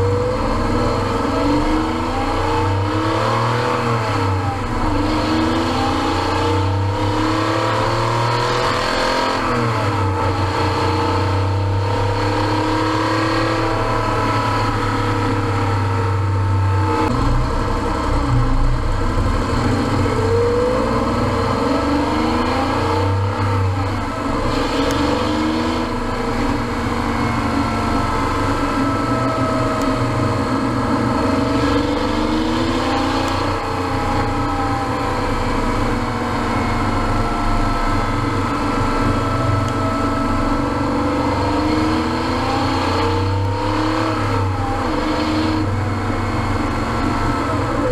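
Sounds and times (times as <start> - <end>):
car engine accelerating and shifting: 0.0 - 47.9.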